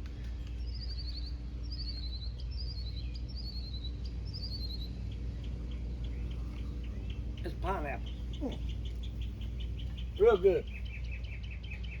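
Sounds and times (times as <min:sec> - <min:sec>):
steady low hum: 0:00.0 - 0:12.0
small songbird singing: 0:00.4 - 0:12.0.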